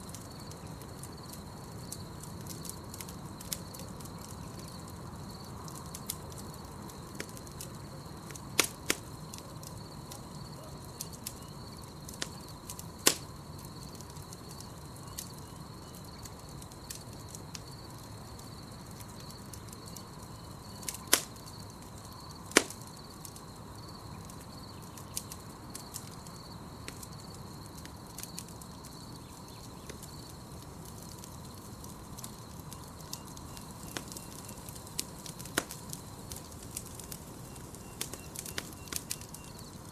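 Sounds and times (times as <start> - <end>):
campfire crackling and popping: 0.0 - 39.9
night insects chirring: 0.0 - 39.9.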